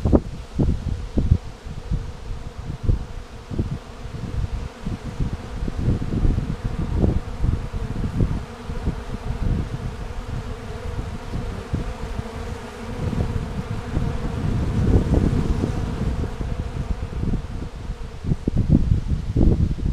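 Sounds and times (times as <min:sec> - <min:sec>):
honeybees buzzing: 0:00.0 - 0:19.7.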